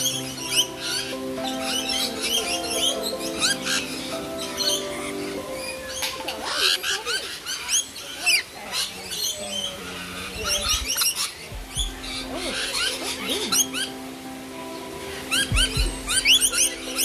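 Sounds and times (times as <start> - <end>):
lorikeets screeching: 0.0 - 17.0.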